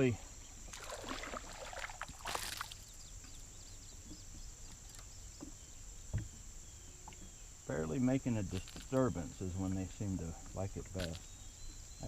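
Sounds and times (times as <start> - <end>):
faint chirps: 2.3 - 12.0.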